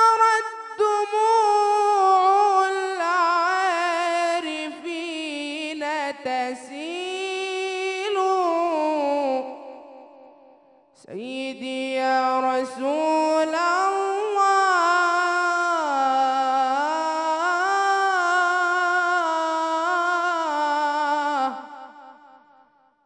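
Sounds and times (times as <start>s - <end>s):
man chanting unaccompanied: 0.0s - 9.8s, 11.0s - 22.0s.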